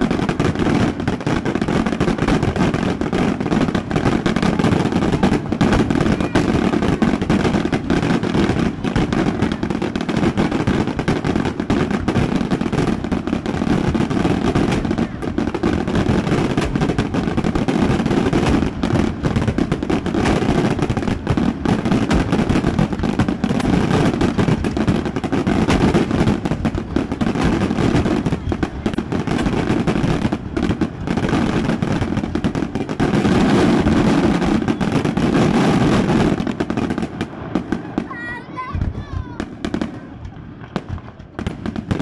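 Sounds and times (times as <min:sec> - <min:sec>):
fireworks bangs and crackling: 0:00.0 - 0:42.0
fountains spraying sparks: 0:00.0 - 0:42.0.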